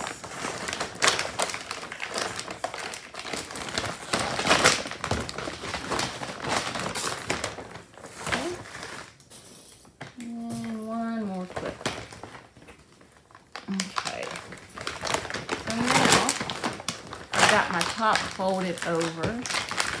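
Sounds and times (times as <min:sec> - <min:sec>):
plastic sack crinkling: 0:00.0 - 0:09.3, 0:09.9 - 0:20.0.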